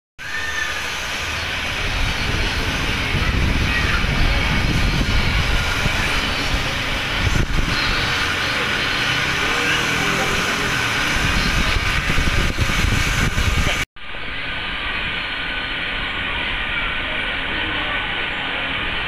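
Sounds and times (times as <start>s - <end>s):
faint voices: 0.2s - 19.0s
loud rushing noise: 0.2s - 19.0s.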